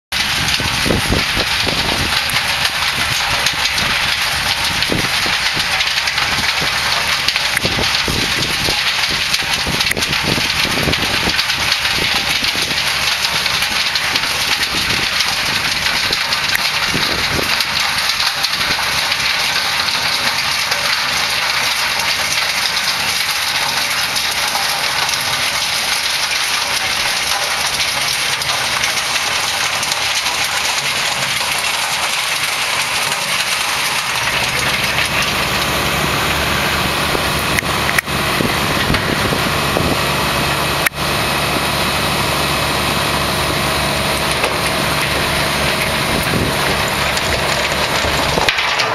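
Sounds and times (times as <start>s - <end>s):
tractor engine under load: 0.1s - 48.9s.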